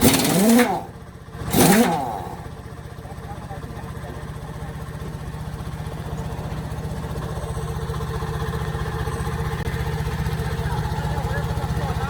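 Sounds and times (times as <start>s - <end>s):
heavy machine engine chugging: 0.0s - 12.0s.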